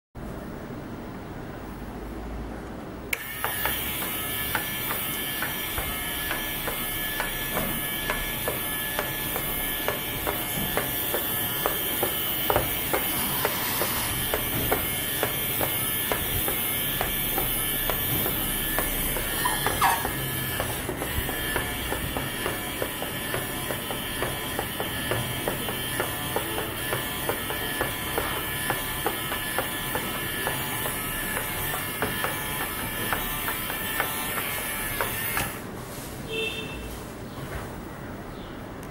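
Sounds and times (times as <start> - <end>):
small motor whining: 3.2 - 35.6.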